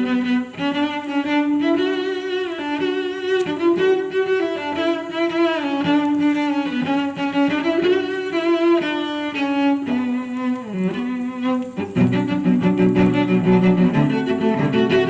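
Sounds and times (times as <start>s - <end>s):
cello and violin melody: 0.0s - 15.0s.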